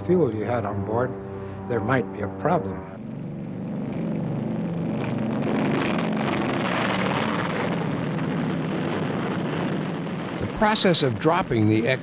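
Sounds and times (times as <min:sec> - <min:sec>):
piston aircraft engines: 0:00.0 - 0:12.0.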